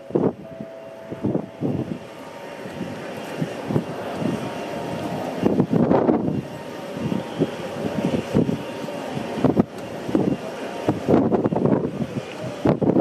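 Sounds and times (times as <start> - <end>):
steady background hum: 0.0 - 13.0
wind buffeting microphone: 0.0 - 13.0.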